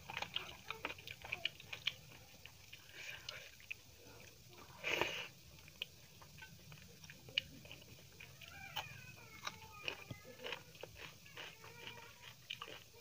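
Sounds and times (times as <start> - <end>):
wet chewing and mouth clicks: 0.0 - 13.0.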